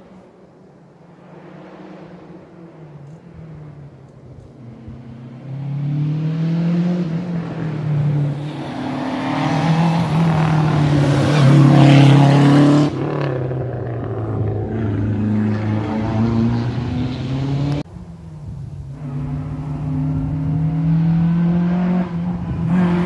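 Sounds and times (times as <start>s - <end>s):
rally car engine accelerating: 1.1s - 23.0s.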